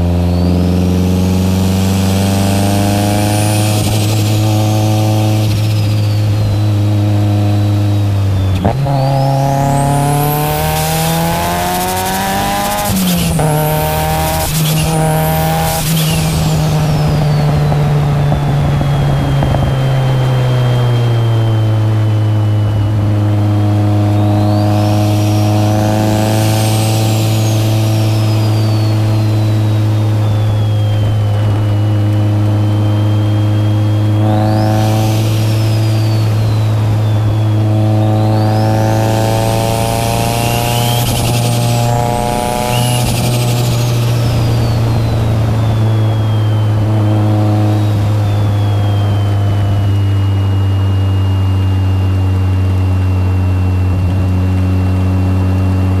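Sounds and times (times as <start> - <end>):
car engine accelerating: 0.0 - 56.0
turbo whistle: 0.0 - 56.0.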